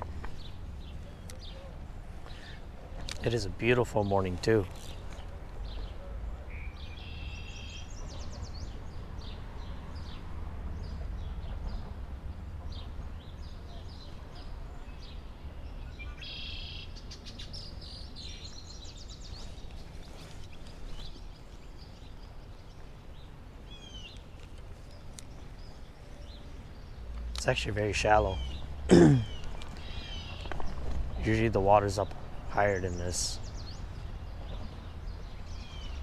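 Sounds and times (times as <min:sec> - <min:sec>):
songbirds singing and chirping: 0:00.0 - 0:36.0.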